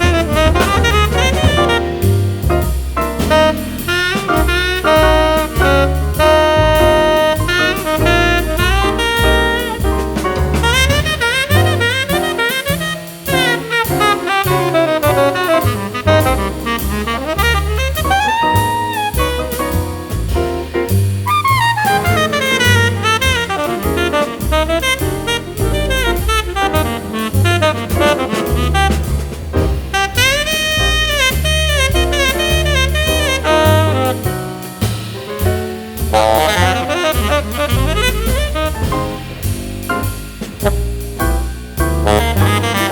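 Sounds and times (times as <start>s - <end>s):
jazz music with saxophone: 0.0s - 42.9s.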